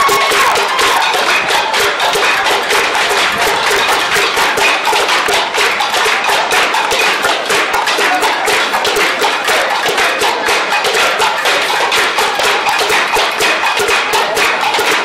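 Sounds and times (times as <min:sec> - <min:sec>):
rhythmic clapping and tapping: 0:00.0 - 0:15.0.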